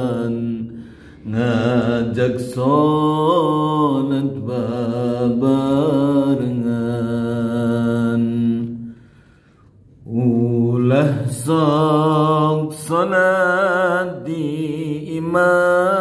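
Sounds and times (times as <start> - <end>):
man singing chant unaccompanied: 0.0 - 8.9, 10.0 - 16.0.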